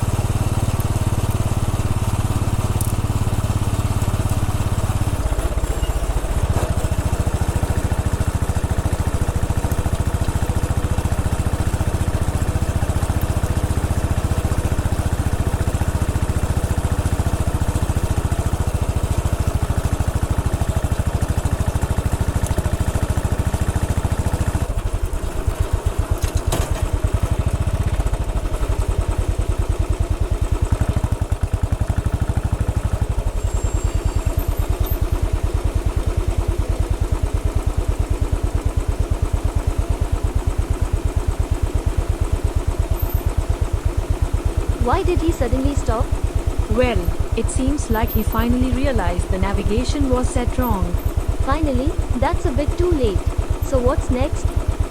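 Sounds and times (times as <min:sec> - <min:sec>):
single-cylinder motorcycle engine: 0:00.0 - 0:54.9.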